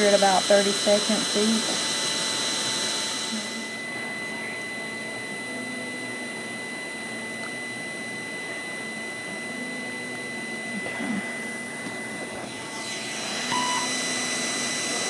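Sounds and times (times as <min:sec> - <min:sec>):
small motor whine: 0:00.0 - 0:15.0.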